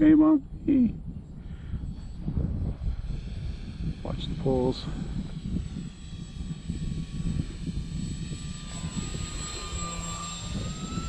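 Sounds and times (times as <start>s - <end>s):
wind rumbling on microphone: 0.0s - 11.0s
model plane motor whining: 1.2s - 11.0s.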